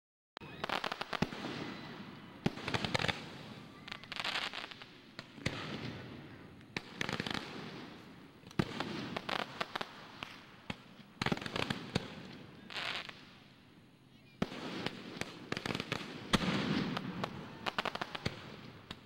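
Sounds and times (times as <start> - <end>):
fireworks bangs: 0.4 - 13.4, 14.4 - 19.0
fireworks crackling: 0.4 - 19.0.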